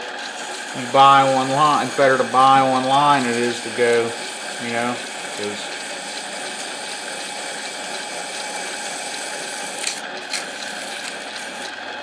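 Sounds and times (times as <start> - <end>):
lathe running with hiss: 0.0 - 12.0.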